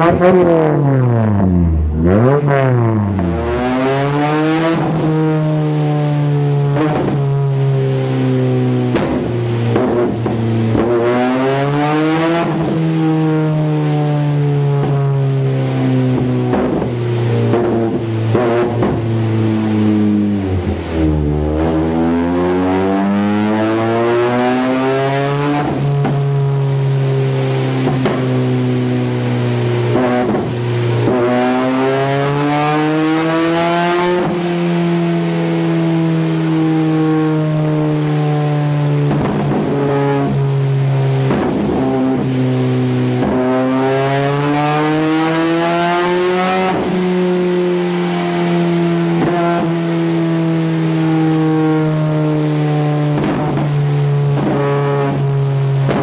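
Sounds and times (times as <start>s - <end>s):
car engine and exhaust running: 0.0s - 56.0s.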